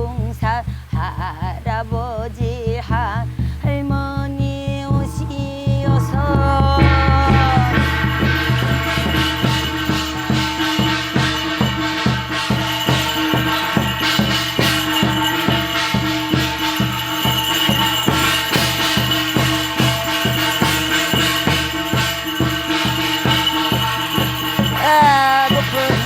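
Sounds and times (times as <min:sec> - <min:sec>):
drum beaten in even pulse: 0:00.0 - 0:26.0
steady held tone: 0:03.8 - 0:26.0
jingling bells: 0:05.0 - 0:26.0.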